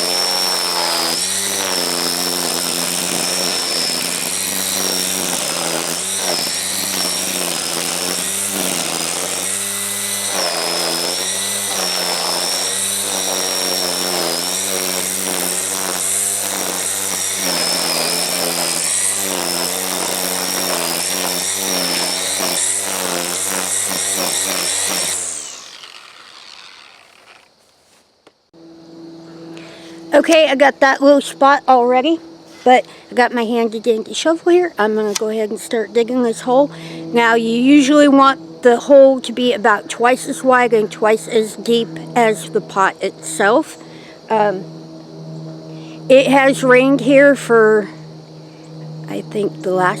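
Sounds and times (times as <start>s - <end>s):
string trimmer cutting grass: 0.0s - 27.7s, 28.3s - 50.0s.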